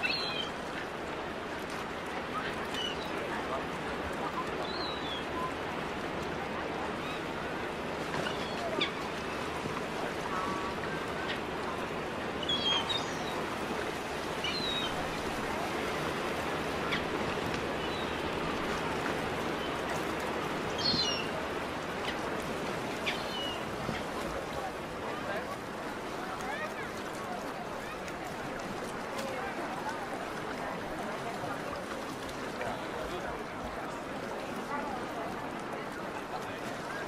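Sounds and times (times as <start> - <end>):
distant murmur: 0.0 - 37.0
water: 0.0 - 37.0.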